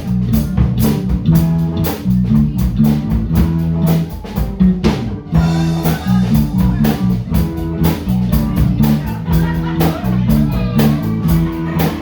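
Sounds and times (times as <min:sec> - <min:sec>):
live band jamming: 0:00.0 - 0:12.0.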